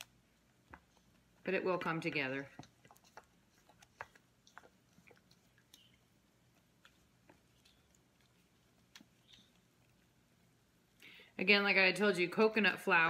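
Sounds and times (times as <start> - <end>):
spatula stirring wet dough: 0.0 - 13.0.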